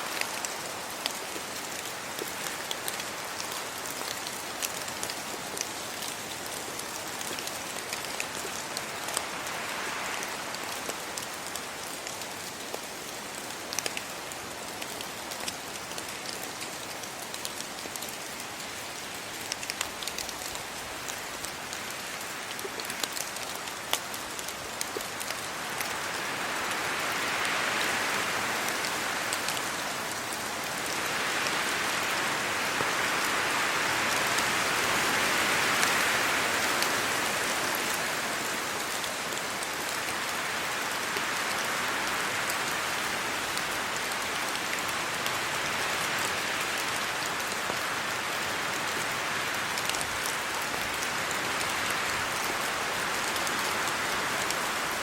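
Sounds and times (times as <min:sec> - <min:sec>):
rain falling on trees and road: 0:00.0 - 0:55.0
raindrops ticking close by: 0:00.0 - 0:55.0.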